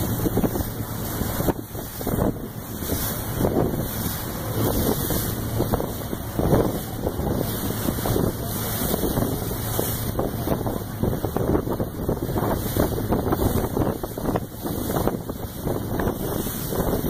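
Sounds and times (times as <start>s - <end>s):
boat engine drone: 0.0s - 17.0s
wind buffeting microphone: 0.0s - 17.0s.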